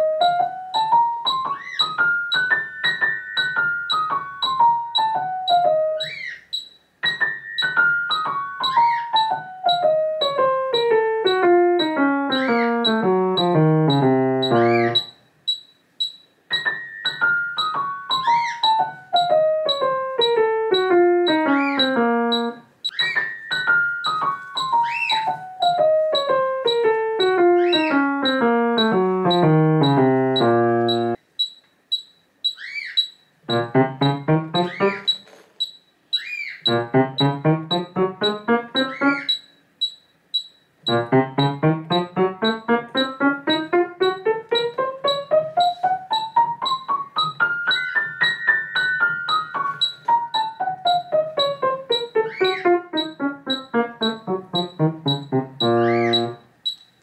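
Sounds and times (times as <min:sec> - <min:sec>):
piano scale runs: 0:00.0 - 0:31.2, 0:31.9 - 0:56.8.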